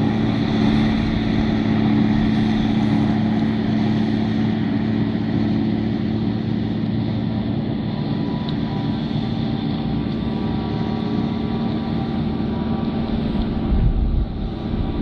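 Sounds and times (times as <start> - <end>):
forage harvester machine drone: 0.0 - 15.0.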